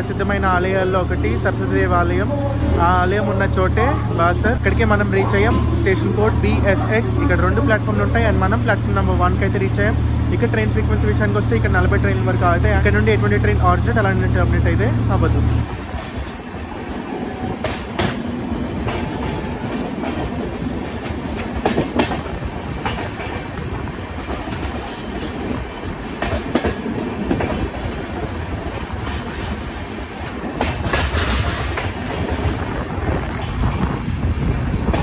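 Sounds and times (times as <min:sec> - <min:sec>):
train rumbling on track: 0:00.0 - 0:35.0
wheels clacking over rail joints: 0:02.1 - 0:35.0.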